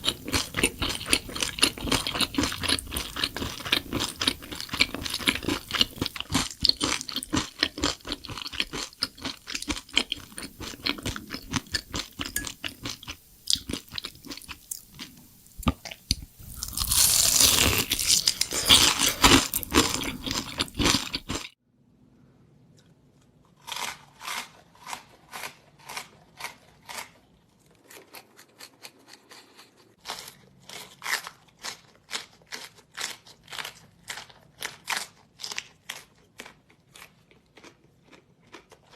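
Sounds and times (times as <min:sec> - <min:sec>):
chewing crunchy snack: 0:00.0 - 0:21.6, 0:22.8 - 0:38.9.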